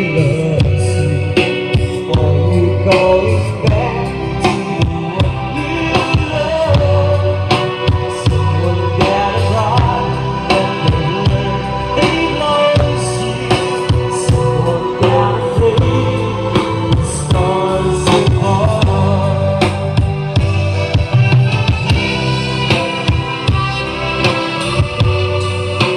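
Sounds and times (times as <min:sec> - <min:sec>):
gospel song with singing: 0:00.0 - 0:21.2
heavy bass: 0:00.0 - 0:25.9
steady drum beat: 0:00.0 - 0:25.9.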